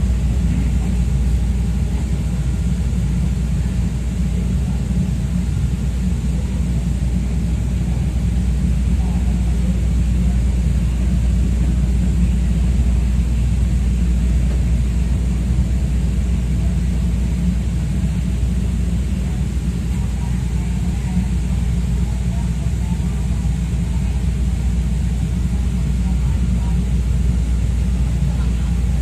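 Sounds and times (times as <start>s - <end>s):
urban background rumble: 0.0s - 29.0s.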